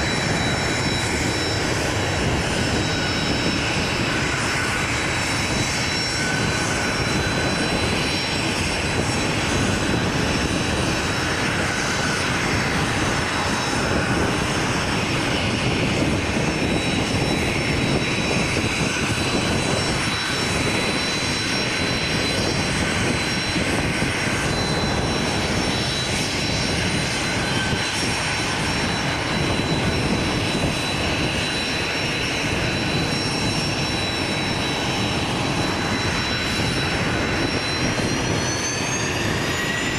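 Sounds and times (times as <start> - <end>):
high-pitched jet whine: 0.0 - 39.9
jet engines rushing: 0.0 - 39.9.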